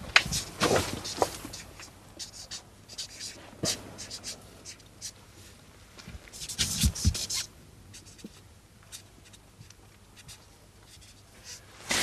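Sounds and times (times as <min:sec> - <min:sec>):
marker squeaking on metal: 0:00.3 - 0:05.2, 0:06.3 - 0:11.7.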